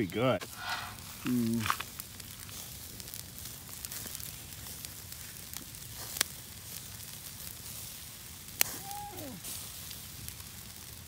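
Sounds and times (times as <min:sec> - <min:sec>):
sausages sizzling: 0:00.0 - 0:11.0
sharp pops from fire: 0:00.0 - 0:11.0
wood fire crackling: 0:00.0 - 0:11.0.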